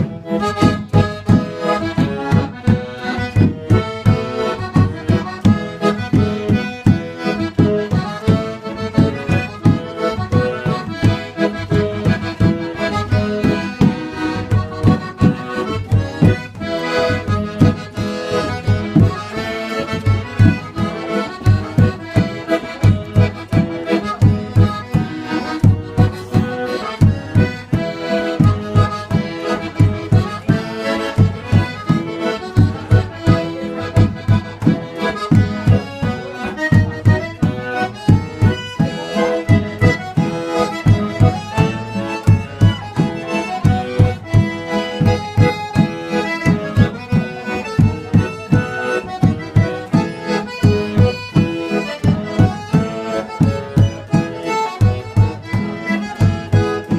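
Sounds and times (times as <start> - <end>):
accordion music: 0.0 - 56.9.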